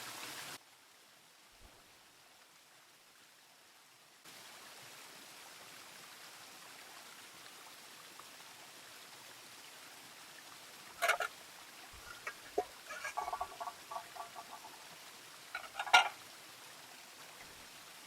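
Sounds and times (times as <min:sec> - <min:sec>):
stream flowing: 0:00.0 - 0:18.0.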